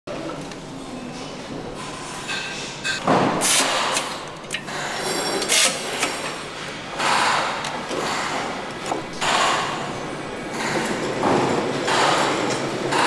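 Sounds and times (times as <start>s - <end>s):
steady machinery noise: 1.6s - 13.0s.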